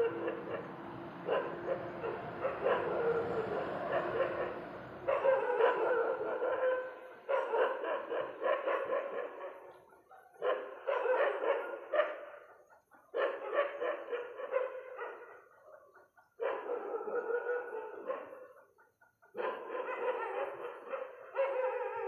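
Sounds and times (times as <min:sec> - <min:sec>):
dog barking rapidly: 0:00.0 - 0:12.4, 0:13.1 - 0:15.8, 0:16.4 - 0:18.6, 0:19.3 - 0:22.0.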